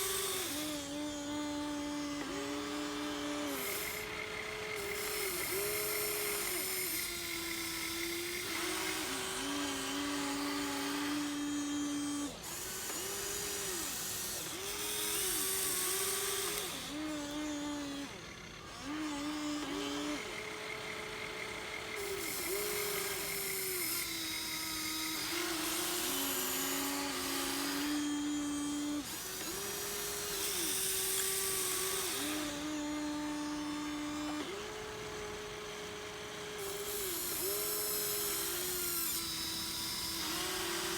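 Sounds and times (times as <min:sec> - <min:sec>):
small electric motors whining: 0:00.0 - 0:40.9.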